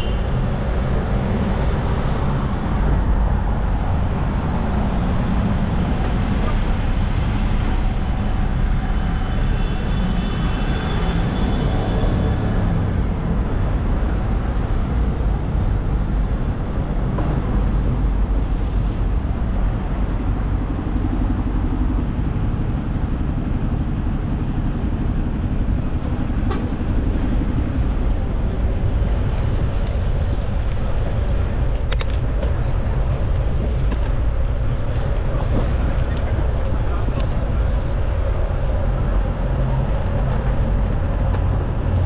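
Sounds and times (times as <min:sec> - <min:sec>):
road and wind rumble: 0:00.0 - 0:42.0.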